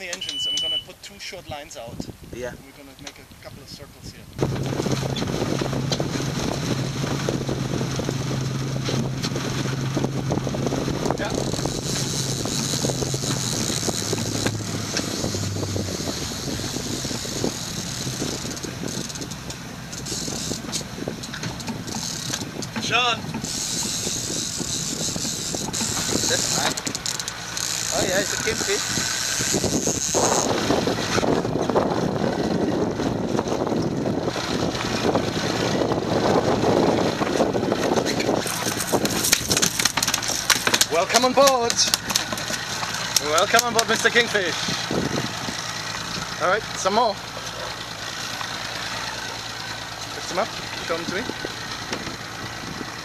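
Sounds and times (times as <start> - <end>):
outboard motors humming: 0.0 - 53.0
wind and water rushing: 0.9 - 53.0.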